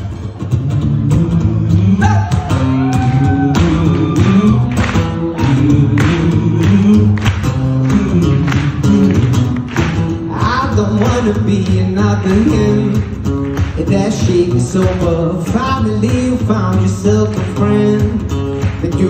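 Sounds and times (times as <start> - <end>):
acoustic guitar strumming: 0.0 - 19.0
man singing wordless vocals: 0.7 - 9.5, 10.2 - 19.0.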